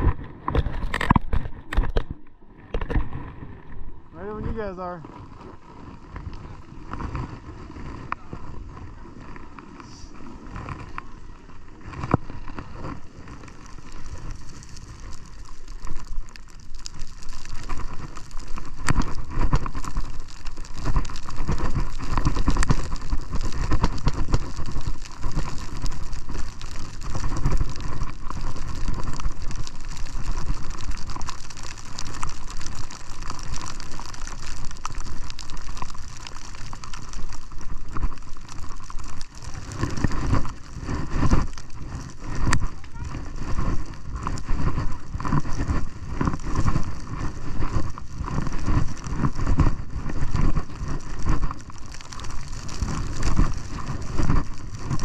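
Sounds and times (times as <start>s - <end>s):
skis running over snow: 2.5s - 55.0s.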